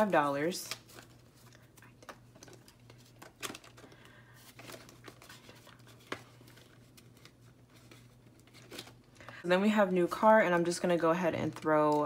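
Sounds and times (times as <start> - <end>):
paper banknotes rustling: 0.0 - 9.4, 10.6 - 12.0
plastic binder pocket crinkling: 0.0 - 9.4, 11.3 - 12.0.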